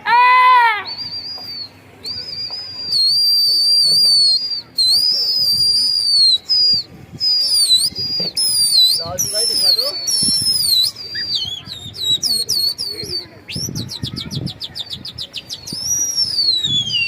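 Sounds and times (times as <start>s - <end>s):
person whistling shrilly: 0.5s - 14.2s, 15.2s - 17.0s.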